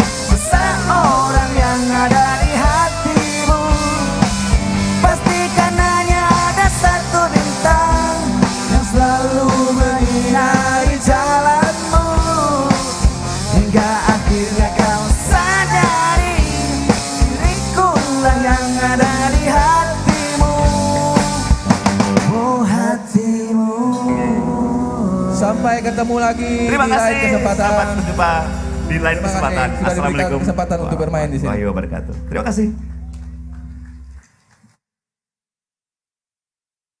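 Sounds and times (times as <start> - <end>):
melodic lead guitar line: 0.0 - 22.6, 23.8 - 33.9
drum kit: 0.0 - 22.7, 24.1 - 34.1
live rock band playing: 0.0 - 22.8, 24.0 - 34.0.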